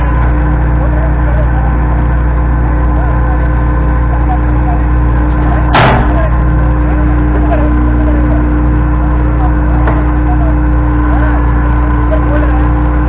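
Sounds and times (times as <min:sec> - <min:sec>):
drilling rig running: 0:00.0 - 0:13.0.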